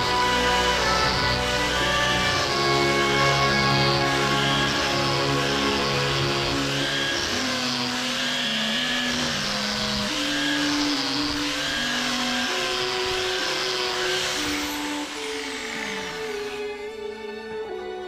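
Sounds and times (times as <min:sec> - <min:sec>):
angle grinder sanding steel: 0:00.0 - 0:17.7.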